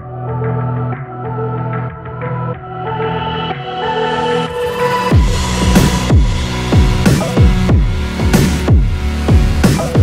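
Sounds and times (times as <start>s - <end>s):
electronic music with synth chords: 0.0s - 10.0s.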